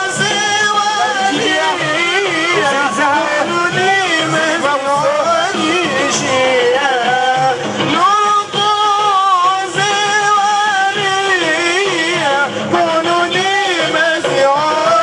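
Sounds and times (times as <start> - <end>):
men singing religious chant: 0.0 - 15.0.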